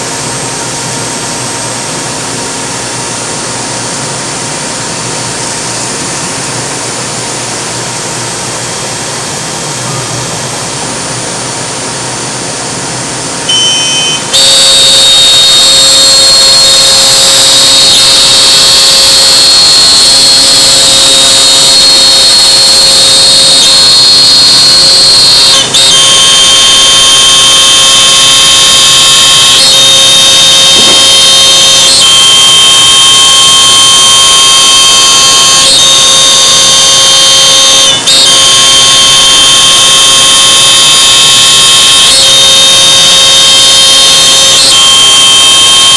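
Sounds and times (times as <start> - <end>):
router spindle whining: 0.0 - 44.9.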